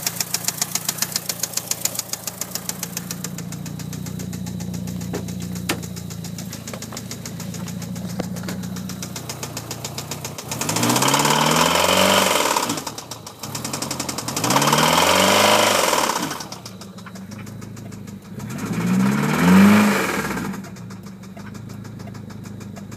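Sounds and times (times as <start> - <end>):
car engine idling with ticking: 0.0 - 22.9
engine revving: 0.0 - 22.9.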